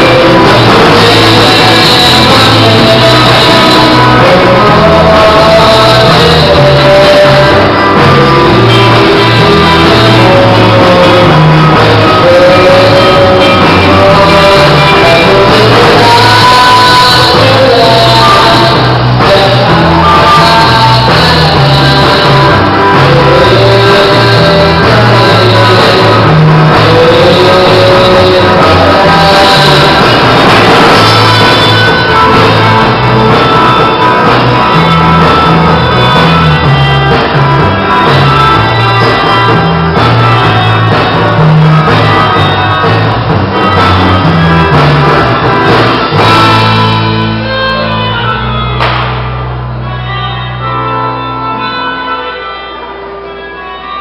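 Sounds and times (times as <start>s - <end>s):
person singing lead vocal: 0.0s - 48.8s
rock band playing: 0.0s - 54.0s.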